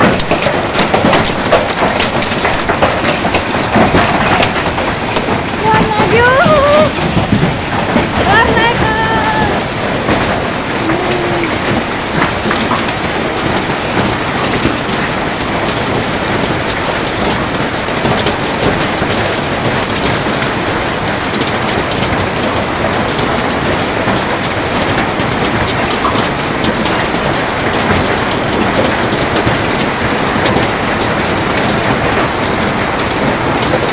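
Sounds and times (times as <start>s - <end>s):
hail ticking on roofs: 0.0s - 33.9s
heavy rain: 0.0s - 33.9s.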